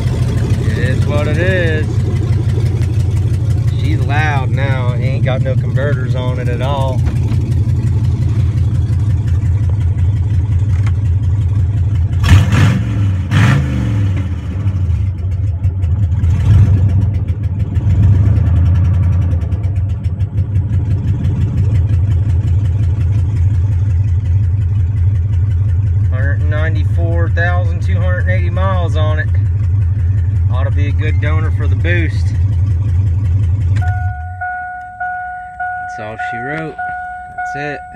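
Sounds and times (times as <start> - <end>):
loud engine idling and revving: 0.0 - 37.9.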